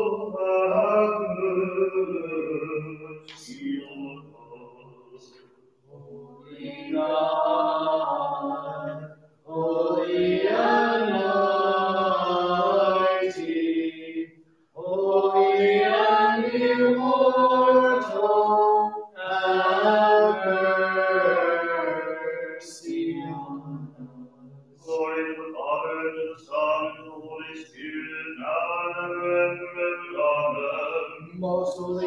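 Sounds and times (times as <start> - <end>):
voices chanting: 0.0 - 14.1, 14.8 - 32.0.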